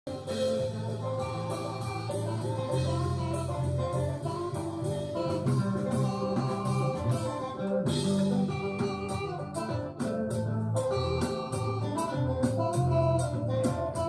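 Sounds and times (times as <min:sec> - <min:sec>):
bass line: 0:00.1 - 0:14.0
cymbal beat: 0:00.1 - 0:14.0
sustained chords: 0:00.1 - 0:14.0.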